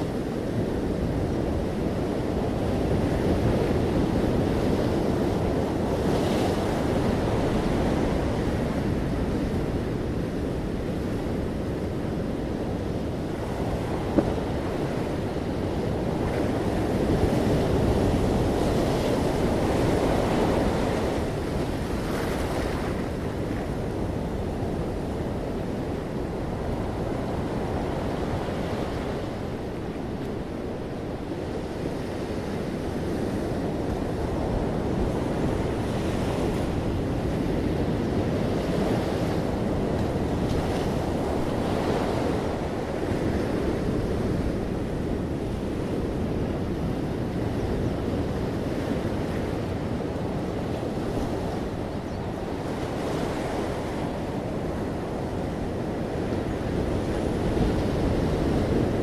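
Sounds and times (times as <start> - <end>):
ocean waves breaking: 0.0 - 59.0
wind noise on microphone: 0.0 - 59.0.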